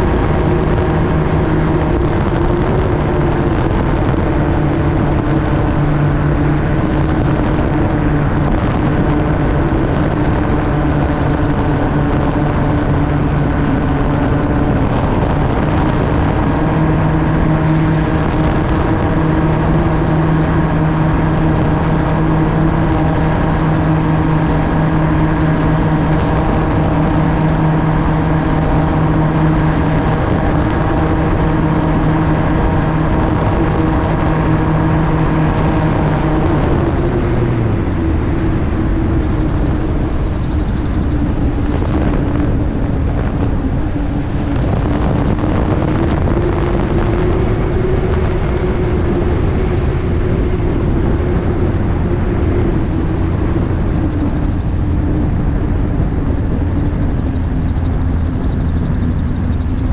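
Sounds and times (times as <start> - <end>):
gyroplane engine and propeller drone: 0.0 - 59.9
wind rushing on microphone: 0.0 - 59.9.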